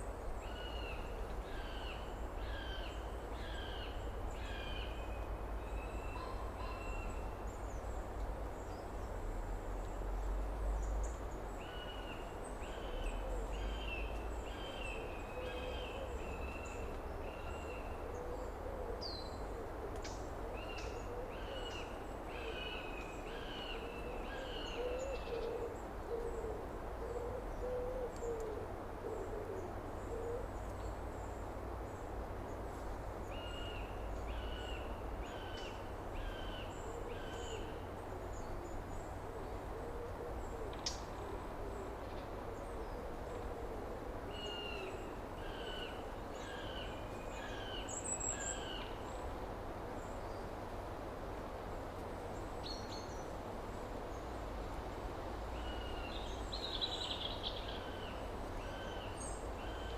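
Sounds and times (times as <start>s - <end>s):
background hiss: 0.0s - 59.9s.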